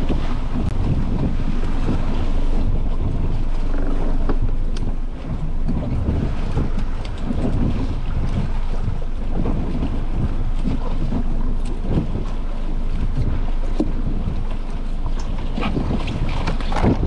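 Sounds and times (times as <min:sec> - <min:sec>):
seawater rushing and splashing: 0:00.0 - 0:17.0
wind buffeting microphone: 0:00.0 - 0:17.0.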